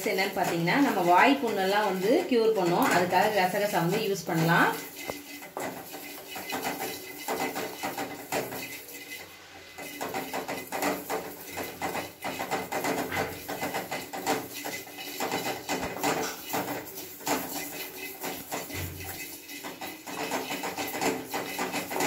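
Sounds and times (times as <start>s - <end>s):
spatula scraping metal pan: 0.0s - 22.0s.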